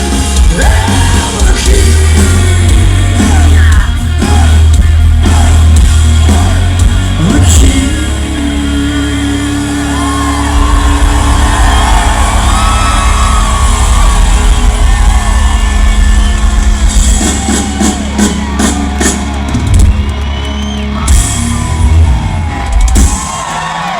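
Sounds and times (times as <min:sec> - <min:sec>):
crowd shouting and whooping: 0:00.0 - 0:23.9
drum and cymbal hits: 0:00.0 - 0:23.9
rock band playing live: 0:00.0 - 0:23.9.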